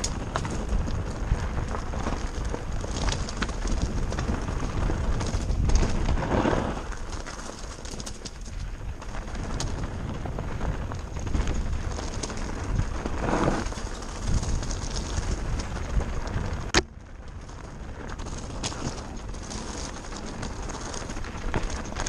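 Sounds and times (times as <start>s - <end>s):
bike rattling: 0.0s - 22.0s
tyres crunching over stones: 0.0s - 22.0s
wind rumble on microphone: 0.0s - 22.0s.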